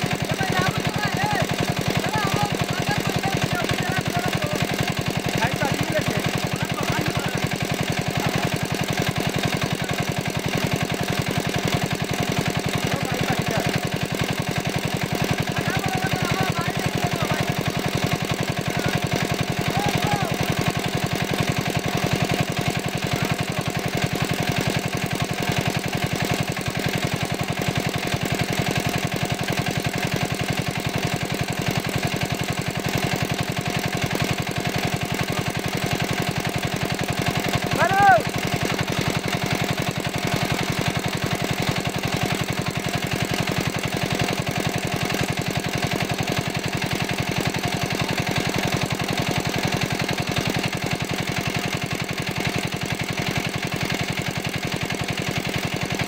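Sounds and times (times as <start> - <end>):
engine-driven water pump running: 0.0 - 56.0.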